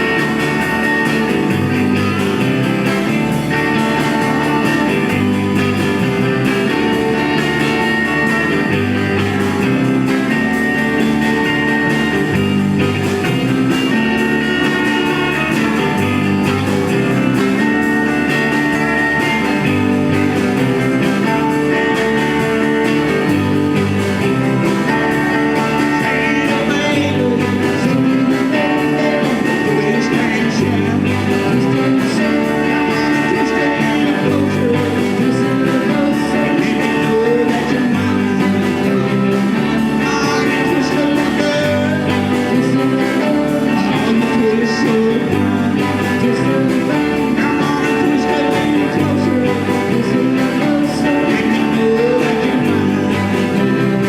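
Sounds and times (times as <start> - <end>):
band playing country-rock song: 0.0 - 54.0
person singing: 0.0 - 54.0.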